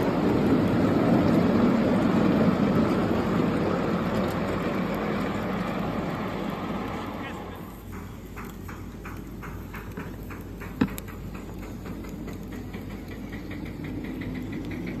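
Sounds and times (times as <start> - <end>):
miniature steam train running: 0.0 - 15.0.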